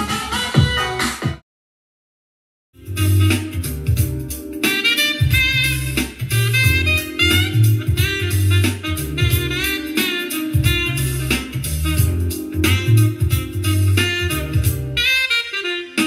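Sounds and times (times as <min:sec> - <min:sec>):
instrumental music through speaker: 0:00.0 - 0:01.4, 0:02.8 - 0:16.0.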